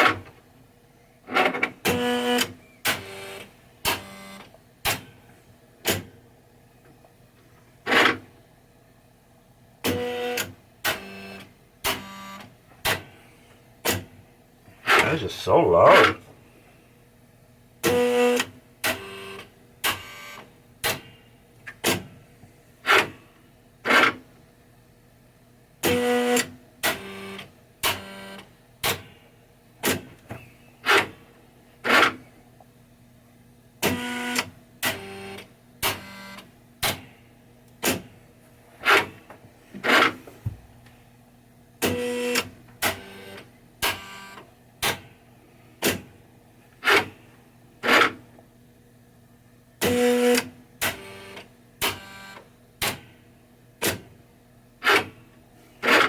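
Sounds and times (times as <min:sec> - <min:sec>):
clatter with steady hum: 0:00.0 - 0:56.0.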